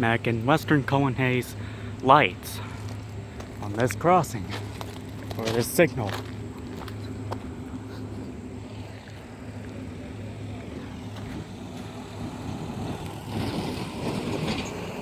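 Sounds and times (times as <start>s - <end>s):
background traffic noise: 0.0s - 15.0s
vehicle engine hum: 0.0s - 15.0s.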